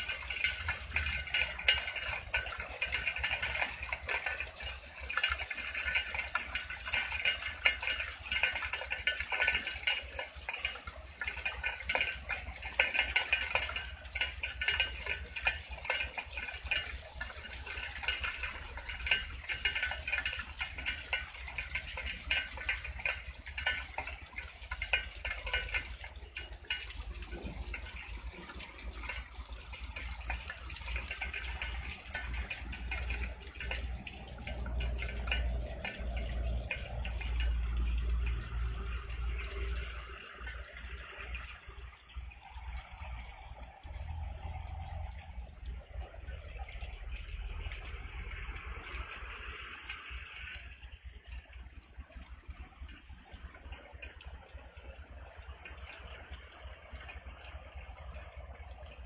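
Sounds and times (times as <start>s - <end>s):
rain drops pattering: 0.0s - 59.0s.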